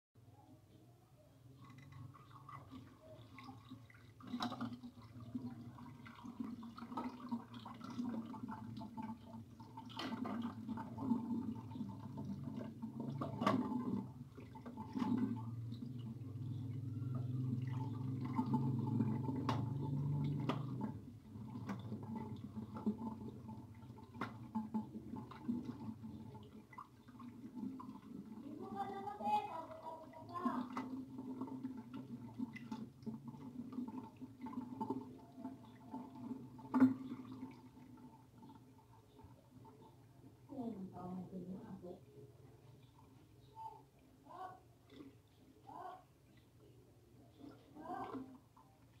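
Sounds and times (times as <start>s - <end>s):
water sloshing in a basin: 1.2s - 49.0s.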